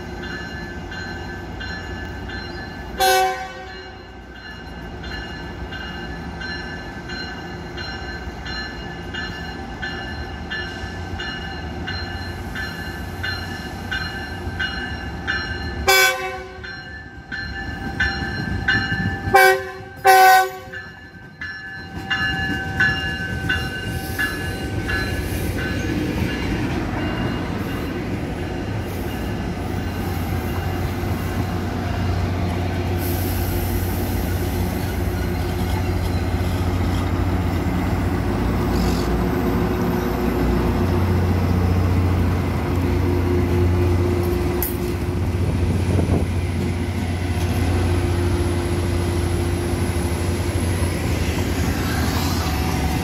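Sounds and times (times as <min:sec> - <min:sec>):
train diesel drone: 0:00.0 - 0:53.0
train wheels rumbling on rails: 0:00.0 - 0:53.0.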